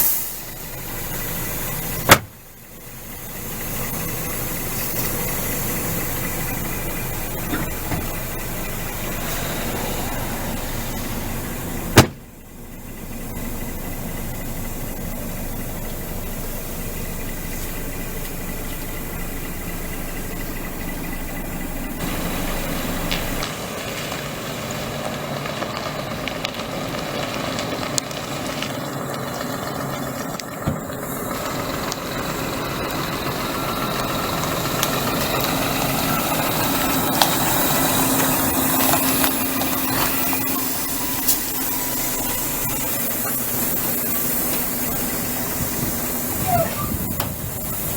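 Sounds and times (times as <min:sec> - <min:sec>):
diesel lorry engine running: 0:00.0 - 0:47.9.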